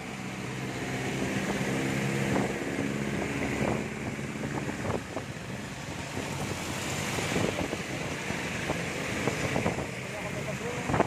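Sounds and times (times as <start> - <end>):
engine hum: 0.0 - 11.0
tyres on wet road: 0.0 - 11.0.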